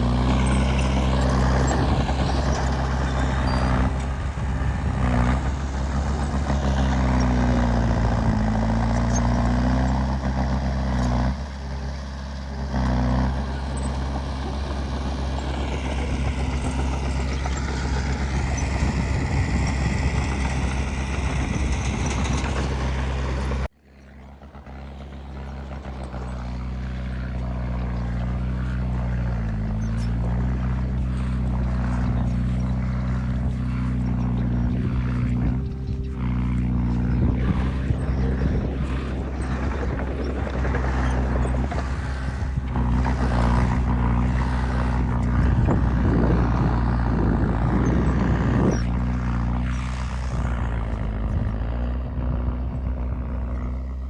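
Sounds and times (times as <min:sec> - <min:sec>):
heavy diesel engines revving: 0:00.0 - 0:54.0.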